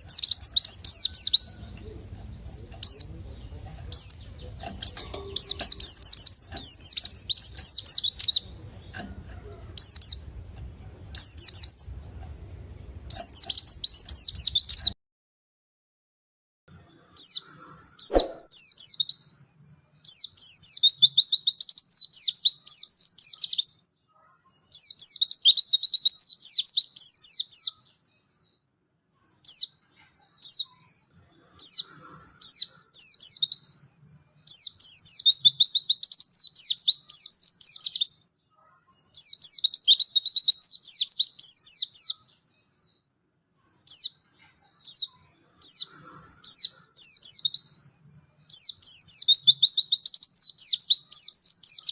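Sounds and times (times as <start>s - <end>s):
bird warbling song: 0.0s - 15.0s, 16.7s - 23.7s, 24.3s - 51.9s.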